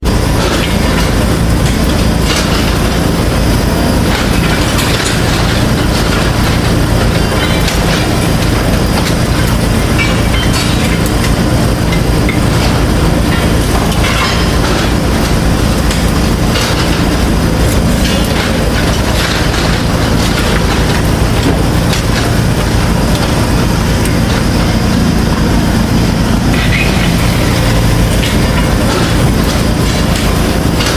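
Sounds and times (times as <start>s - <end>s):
machine running: 0.0s - 30.9s.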